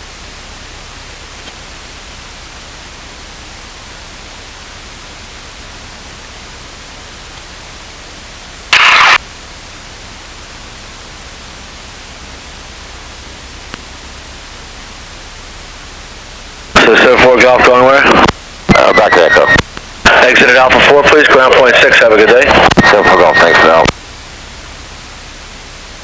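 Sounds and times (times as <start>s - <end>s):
loud burst of static: 0.0s - 26.0s
radio static hiss: 0.0s - 26.0s.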